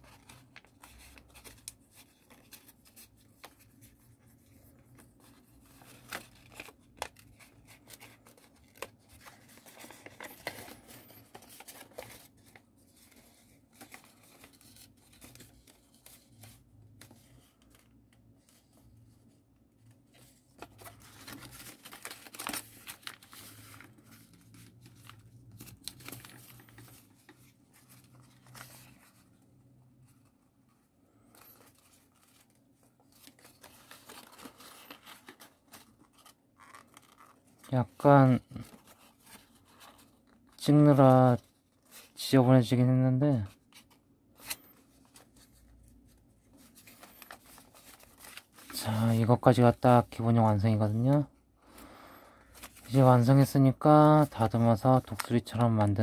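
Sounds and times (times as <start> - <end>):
paper crinkling and rustling: 0.0 - 42.3, 43.1 - 56.0.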